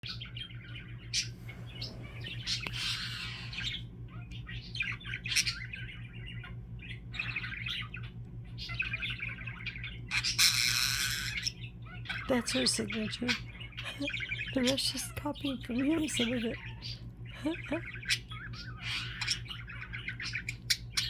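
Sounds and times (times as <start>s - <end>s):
steady low hum: 0.0s - 21.0s
budgerigar chattering: 1.0s - 21.0s.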